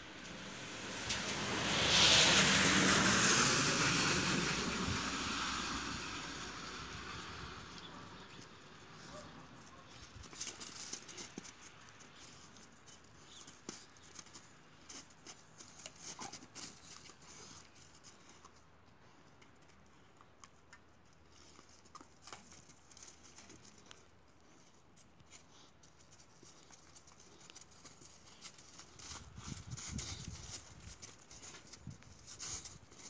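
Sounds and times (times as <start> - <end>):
dog paws crunching on icy snow: 0.7 - 18.3, 21.4 - 33.0.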